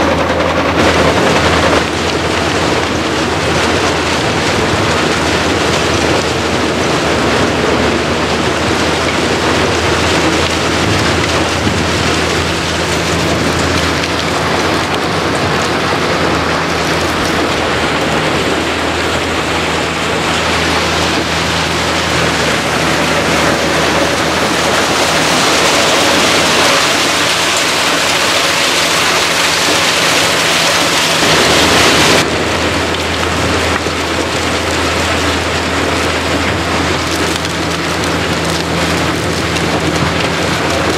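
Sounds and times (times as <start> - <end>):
diesel engine running under load: 0.0 - 40.9
wood chips pouring: 0.8 - 40.9.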